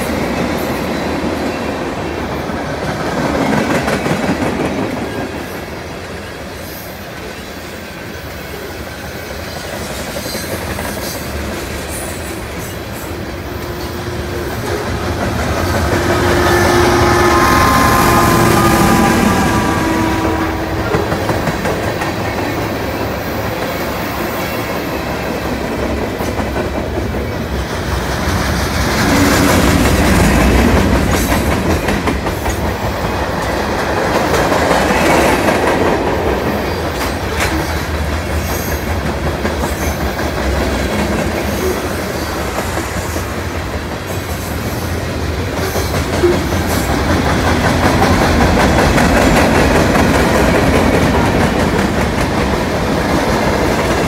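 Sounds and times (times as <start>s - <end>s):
freight train wheels clattering: 9.4s - 19.8s, 20.5s - 54.0s.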